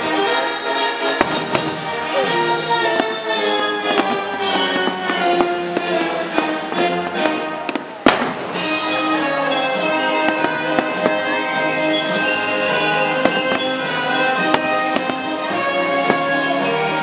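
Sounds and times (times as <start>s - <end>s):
fireworks bursting: 0.0s - 17.0s
music: 0.0s - 17.0s.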